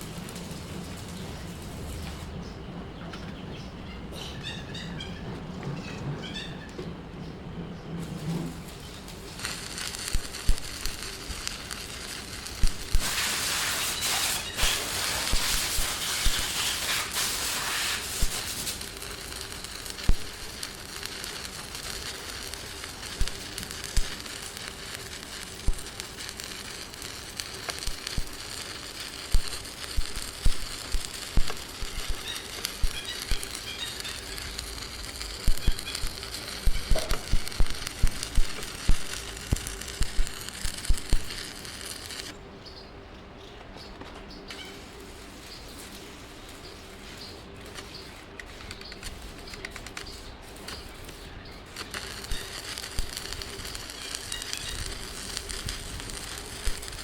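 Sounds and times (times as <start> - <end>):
welding hiss: 0.0 - 2.4, 8.0 - 42.3, 44.5 - 57.0
arc welding crackle: 0.0 - 2.6, 8.0 - 42.4, 44.4 - 57.0.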